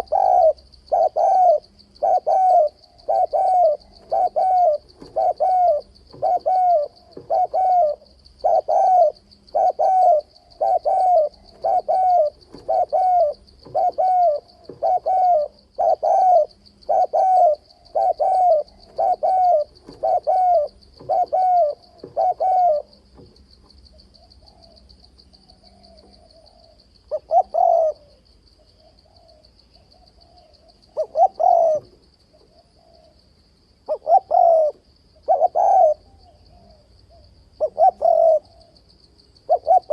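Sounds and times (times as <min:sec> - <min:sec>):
dove cooing: 0:00.0 - 0:23.3, 0:23.9 - 0:33.2, 0:33.8 - 0:39.9.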